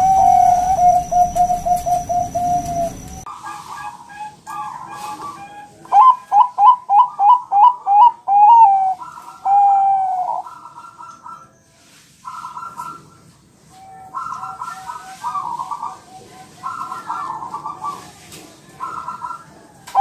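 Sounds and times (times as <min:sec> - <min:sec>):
dove cooing: 0:00.0 - 0:11.5, 0:13.9 - 0:20.0.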